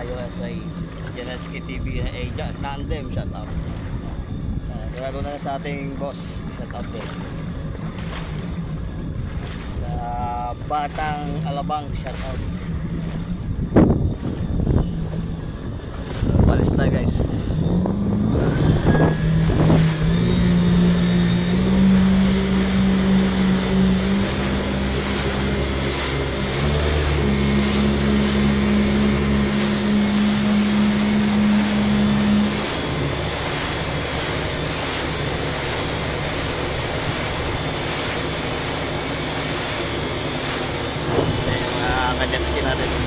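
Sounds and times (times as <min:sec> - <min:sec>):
jet ski engine running: 0:00.0 - 0:43.0
wind and water spray: 0:00.0 - 0:43.0.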